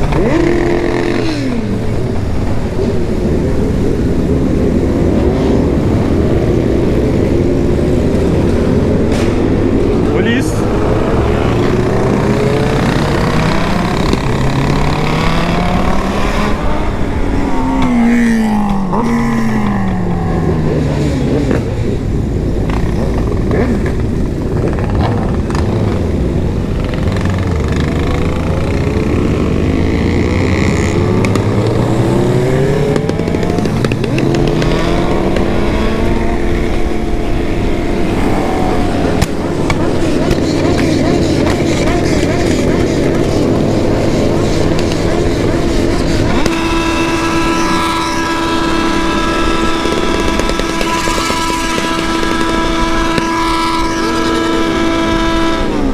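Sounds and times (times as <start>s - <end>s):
constant rush of noise: 0.0s - 55.9s
motorcycle engines riding: 0.0s - 55.9s.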